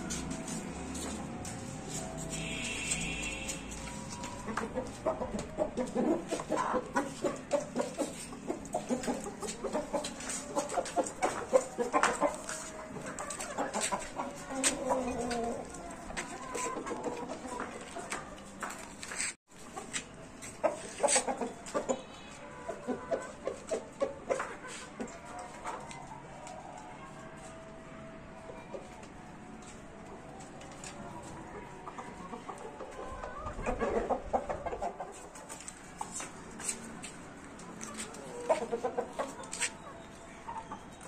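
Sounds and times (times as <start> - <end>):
roosters clucking: 0.0 - 26.8, 28.4 - 41.0.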